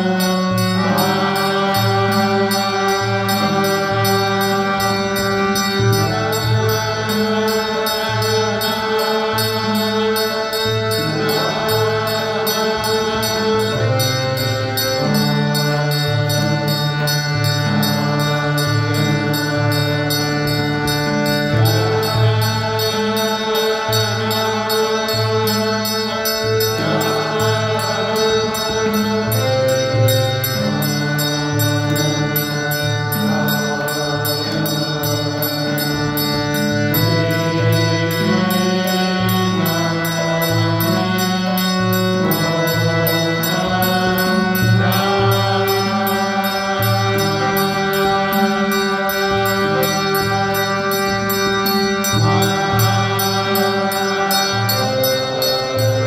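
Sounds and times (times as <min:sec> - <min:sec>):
harmonium chords: 0:00.0 - 0:56.0
voices singing a hymn: 0:00.0 - 0:56.0.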